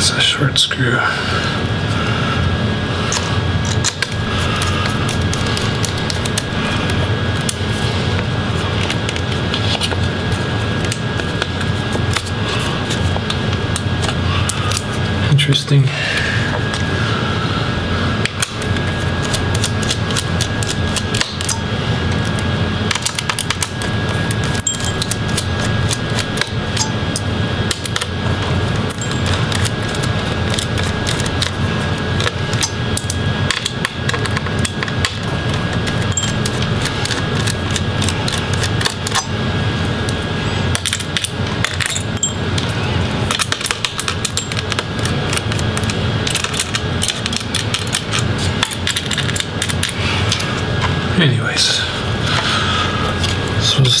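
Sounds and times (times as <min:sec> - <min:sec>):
steady background noise: 0:00.0 - 0:54.0.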